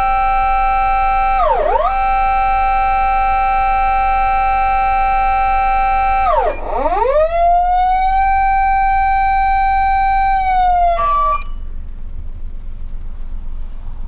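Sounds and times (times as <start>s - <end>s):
reedy electronic siren: 0.0s - 11.8s
low hum: 0.0s - 14.0s.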